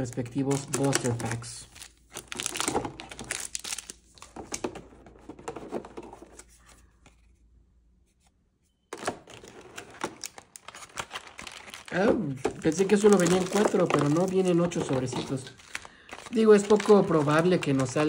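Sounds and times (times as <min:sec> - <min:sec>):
packaging rustling and tearing: 0:00.0 - 0:06.7, 0:09.0 - 0:18.0.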